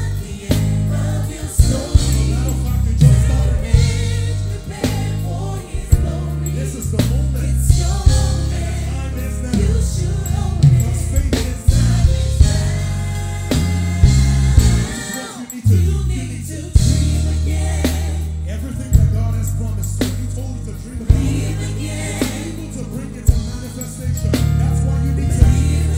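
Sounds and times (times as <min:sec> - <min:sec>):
bass guitar notes: 0:00.0 - 0:15.0, 0:15.7 - 0:25.9
drum kit with cymbal crashes: 0:00.0 - 0:15.9, 0:16.8 - 0:25.9
choir singing: 0:00.0 - 0:18.9, 0:20.8 - 0:25.9.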